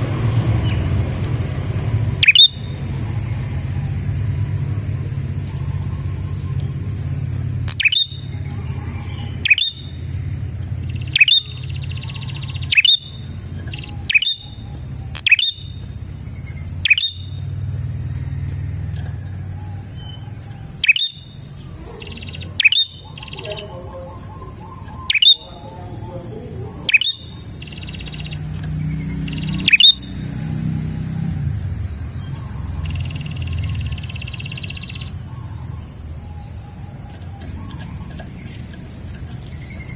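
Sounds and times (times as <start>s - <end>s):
bird calling sharp notes: 1.9s - 4.4s, 5.0s - 18.4s, 19.1s - 31.0s, 32.1s - 39.9s.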